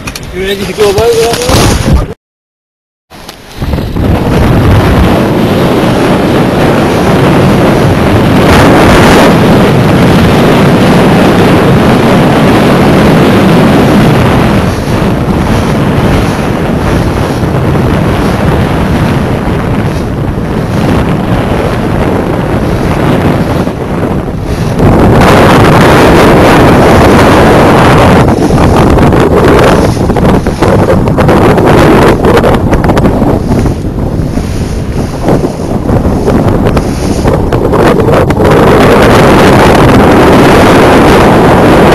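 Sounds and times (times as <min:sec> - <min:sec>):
wind buffeting microphone: 0:00.0 - 0:02.2, 0:03.1 - 0:41.9.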